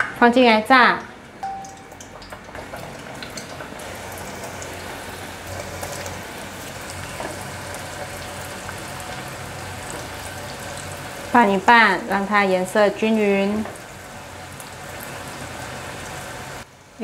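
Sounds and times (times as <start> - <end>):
food deep-frying in oil: 1.4 - 17.0.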